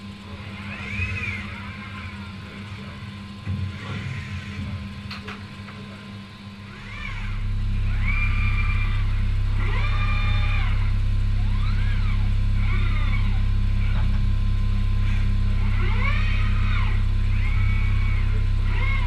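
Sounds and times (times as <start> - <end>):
steady low hum: 0.0 - 19.0
robot servo motors whining: 0.3 - 5.9, 6.6 - 14.2, 15.0 - 19.0.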